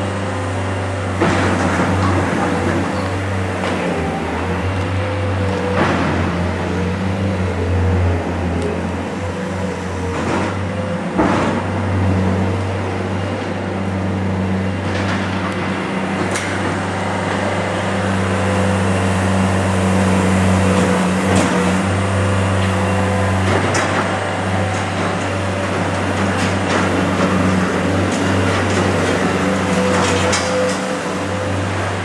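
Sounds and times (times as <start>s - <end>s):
low mechanical drone: 0.0s - 32.0s.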